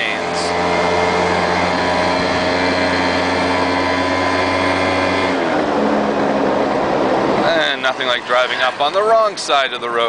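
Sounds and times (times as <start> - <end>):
scooter engine whining: 0.0 - 10.0.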